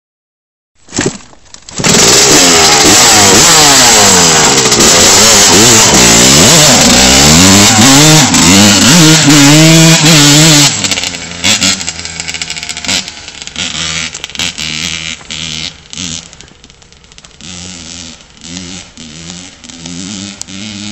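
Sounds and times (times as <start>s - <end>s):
two-stroke motorcycle engine revving: 1.7s - 20.9s.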